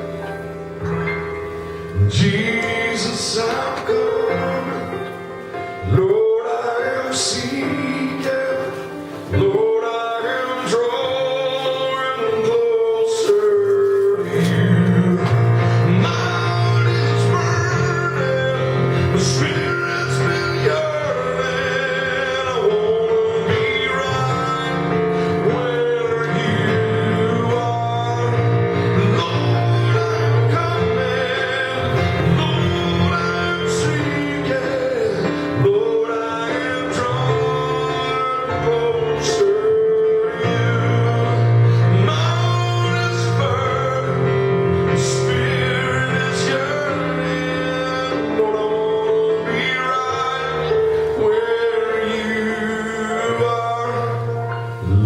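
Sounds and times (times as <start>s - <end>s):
person singing: 0.0s - 55.0s
slow worship music: 0.0s - 55.0s.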